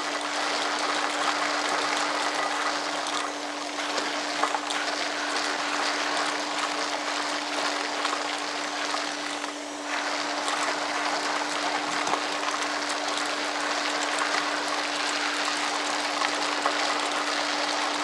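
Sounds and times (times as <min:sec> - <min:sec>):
wet and dry vacuum cleaner: 0:00.0 - 0:18.0.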